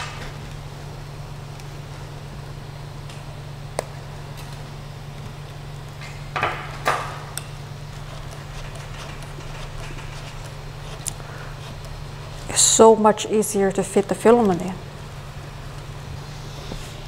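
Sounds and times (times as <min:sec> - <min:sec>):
printer humming: 0:00.0 - 0:17.0.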